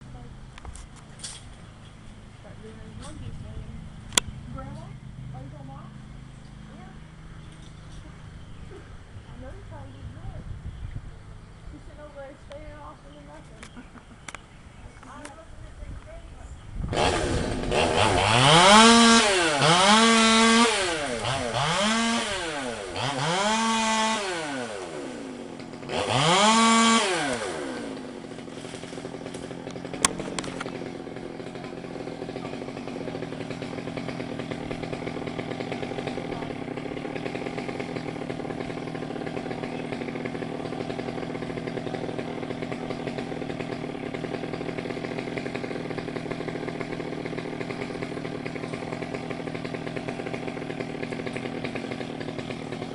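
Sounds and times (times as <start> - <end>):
chainsaw revving and idling: 0.0 - 8.7, 16.8 - 52.9.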